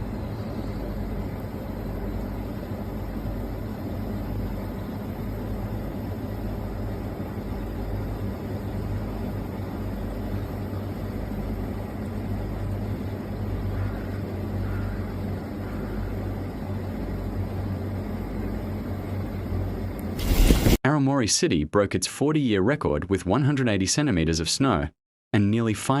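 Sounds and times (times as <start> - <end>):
constant low hum: 0.0 - 20.8.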